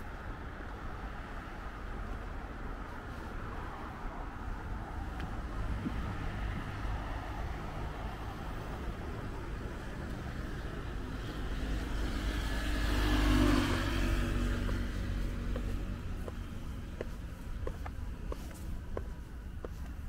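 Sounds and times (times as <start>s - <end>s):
road traffic rumble: 0.0s - 20.0s
car passing close: 3.1s - 19.8s.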